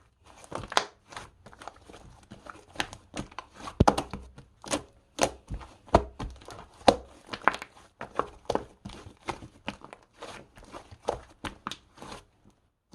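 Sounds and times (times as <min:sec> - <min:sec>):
crinkling and tapping handling noises: 0:00.2 - 0:12.6.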